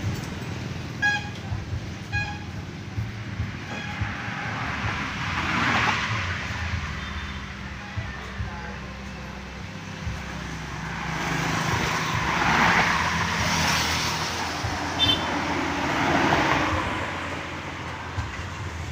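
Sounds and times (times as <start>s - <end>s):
vehicles passing on a road: 0.0s - 18.9s.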